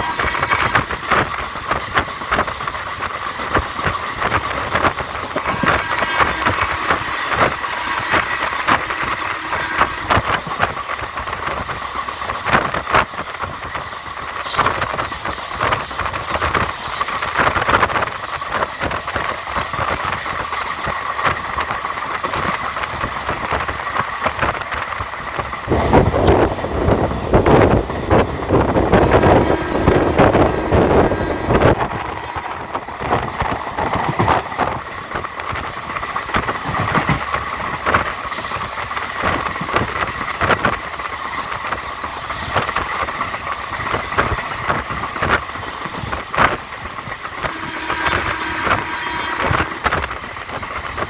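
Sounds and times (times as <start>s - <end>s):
train rolling rumble: 0.0s - 51.0s
wind buffeting microphone: 0.0s - 51.0s.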